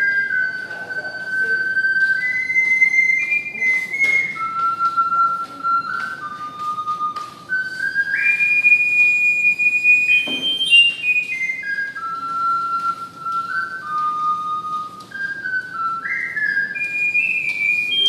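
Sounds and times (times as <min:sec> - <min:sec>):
ocarina playing slow melody: 0:00.0 - 0:18.0.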